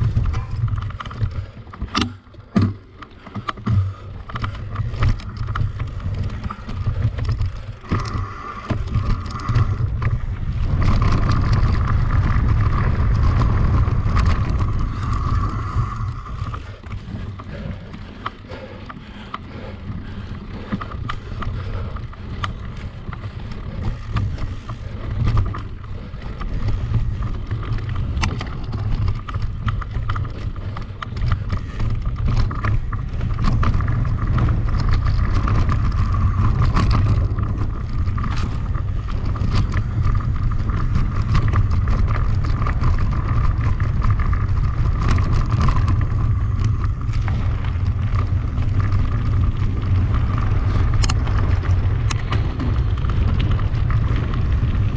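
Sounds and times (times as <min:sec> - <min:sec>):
bike clicks and rattles: 0:00.0 - 0:54.9
wind rushing over microphone: 0:00.0 - 0:54.9.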